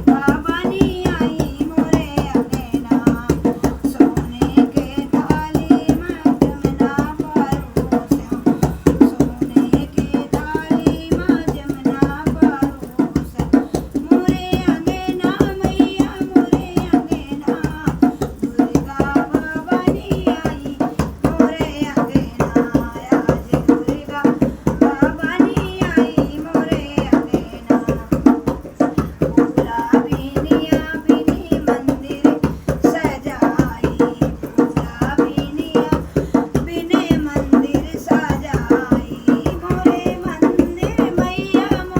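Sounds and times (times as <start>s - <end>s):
fast hand-drum beats: 0.0s - 41.9s
woman singing devotional song: 0.0s - 41.9s.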